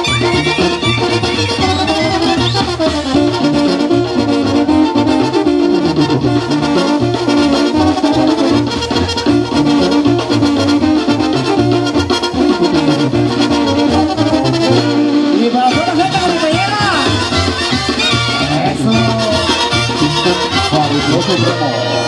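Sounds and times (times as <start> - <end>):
brass band music: 0.0 - 22.0.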